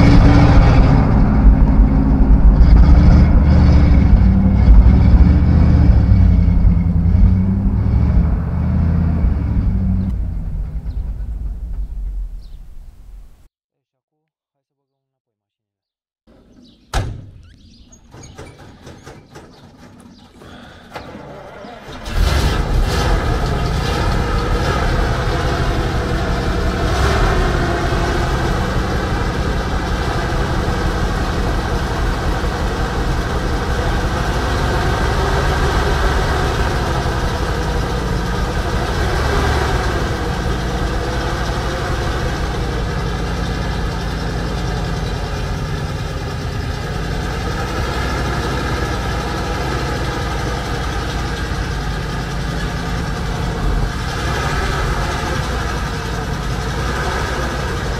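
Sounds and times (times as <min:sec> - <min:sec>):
truck engine idling: 0:00.0 - 0:13.4, 0:16.3 - 0:57.9.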